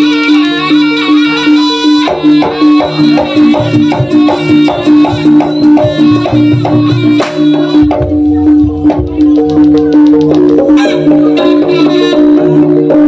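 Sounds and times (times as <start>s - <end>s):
drums beating quickly: 2.0s - 13.0s.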